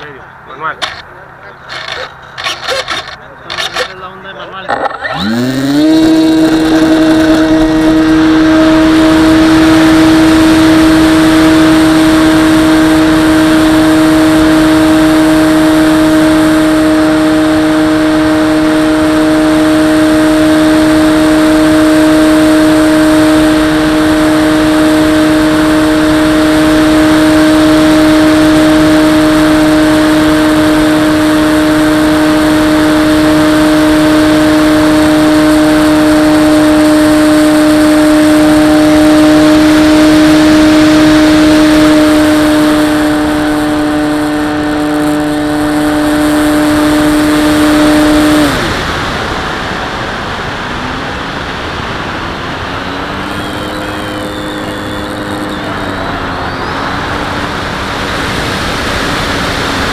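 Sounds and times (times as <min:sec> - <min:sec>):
model plane motor whine: 0:00.8 - 0:01.0, 0:01.7 - 0:04.0, 0:04.7 - 0:49.0, 0:52.6 - 0:59.9.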